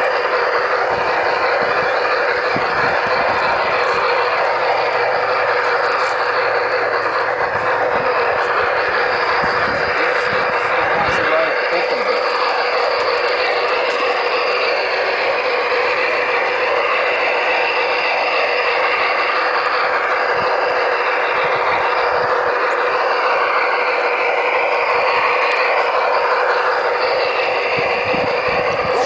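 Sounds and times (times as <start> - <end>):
model train motor whine: 0.0 - 29.0.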